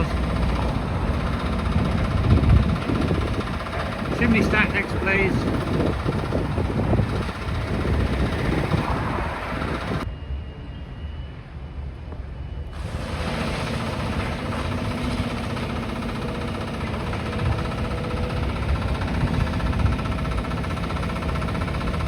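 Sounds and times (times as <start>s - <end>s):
excavator diesel engine rumbling: 0.0s - 10.0s, 12.8s - 22.0s.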